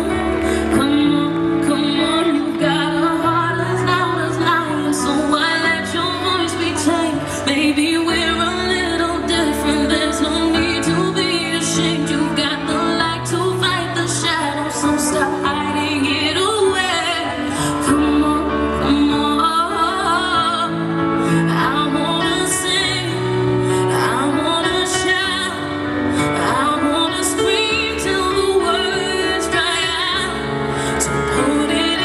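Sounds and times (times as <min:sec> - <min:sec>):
woman singing with vibrato: 0:00.0 - 0:32.0.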